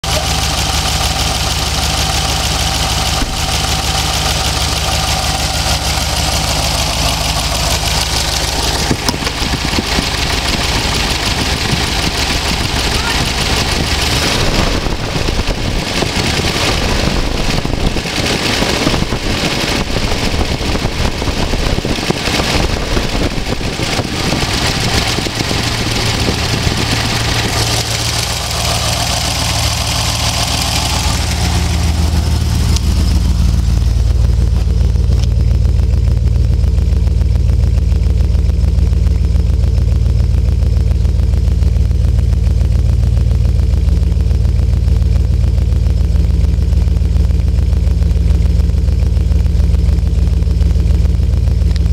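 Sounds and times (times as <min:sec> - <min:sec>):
car engine idling: 0:00.0 - 0:51.9
deep exhaust note: 0:00.0 - 0:51.9.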